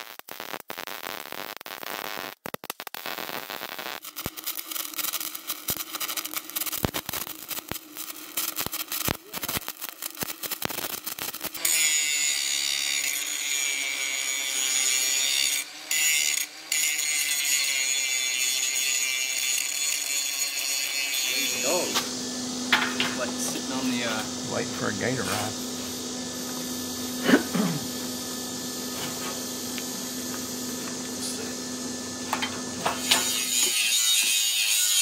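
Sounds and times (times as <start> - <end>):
arc welding crackling: 0.0 - 35.0
angle grinder whining: 3.2 - 35.0.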